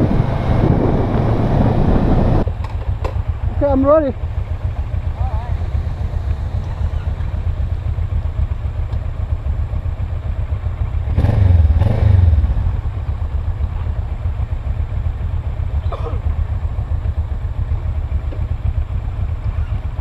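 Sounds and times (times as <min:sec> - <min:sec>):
motorcycle engine idling: 0:02.4 - 0:20.0.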